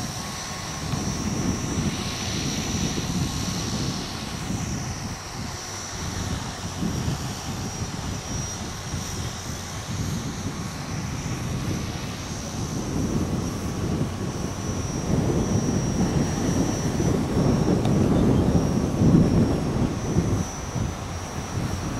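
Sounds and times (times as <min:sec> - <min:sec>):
drone propellers whining: 0:00.0 - 0:21.9
wind buffeting microphone: 0:00.0 - 0:21.9.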